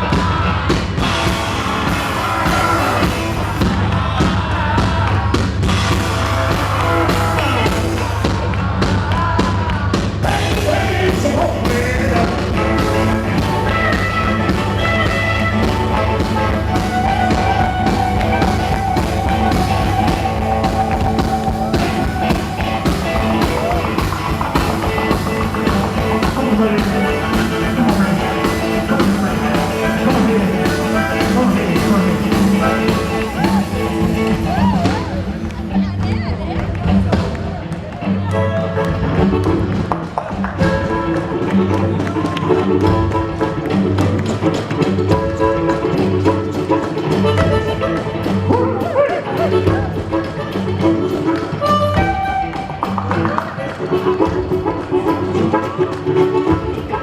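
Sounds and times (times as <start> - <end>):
live rock and roll band: 0.0 - 57.0.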